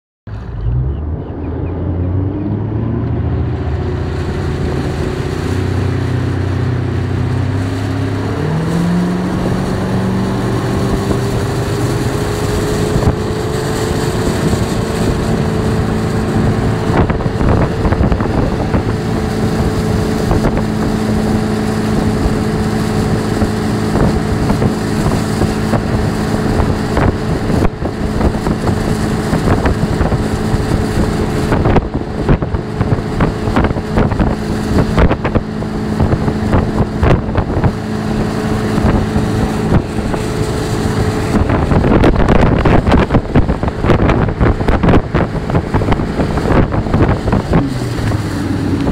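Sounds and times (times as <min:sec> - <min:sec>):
boat engine pulling hard: 0:00.3 - 0:48.9
wind on microphone: 0:00.3 - 0:48.9
rush of spray and water: 0:02.0 - 0:48.9.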